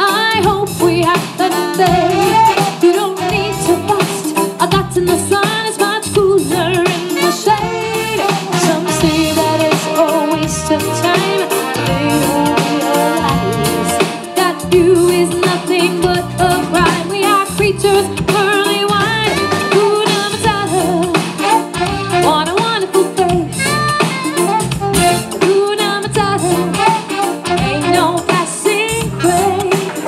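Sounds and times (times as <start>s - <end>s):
live band playing: 0.0s - 30.0s
woman singing into microphone: 0.0s - 30.0s.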